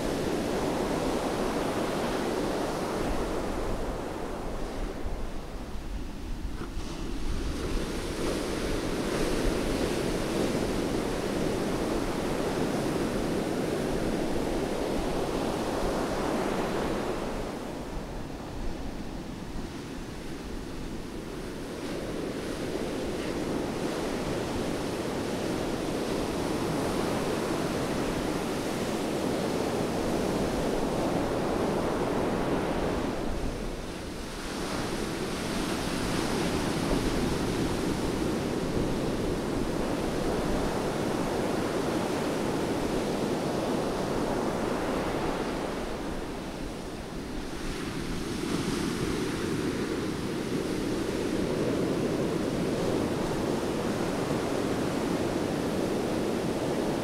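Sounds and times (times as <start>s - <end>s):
waves breaking on sandy beach: 0.0s - 57.0s.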